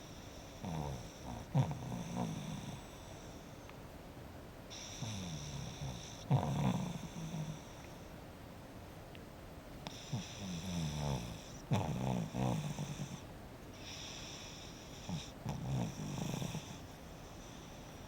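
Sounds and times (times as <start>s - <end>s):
pet snoring: 0.0s - 3.7s, 4.7s - 8.1s, 9.8s - 18.0s.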